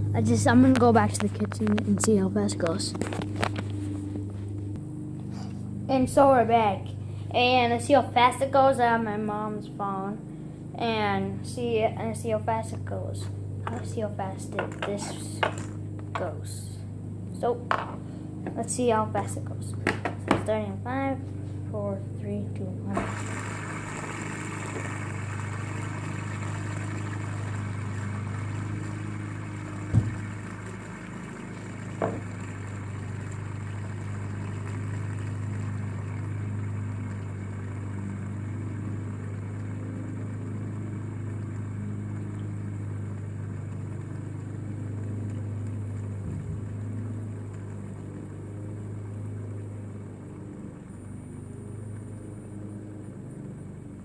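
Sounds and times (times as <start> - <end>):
fidget spinner whirring: 0.0 - 49.1.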